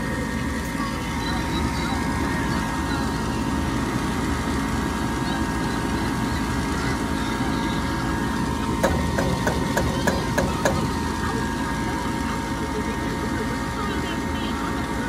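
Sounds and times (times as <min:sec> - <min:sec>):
gas furnace humming: 0:00.0 - 0:15.0.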